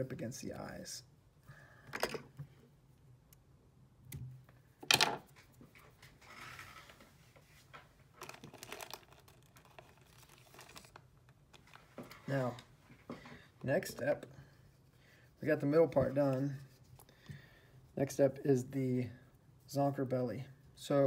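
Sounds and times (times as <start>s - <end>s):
rustles of handling thread and tools: 0.6s - 21.0s.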